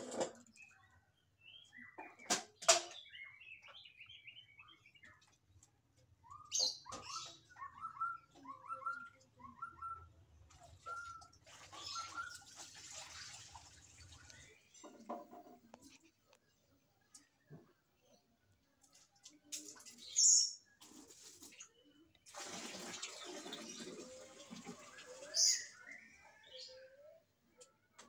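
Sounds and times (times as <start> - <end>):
small birds chirping: 0.0 - 13.3, 14.0 - 22.3, 23.2 - 28.0.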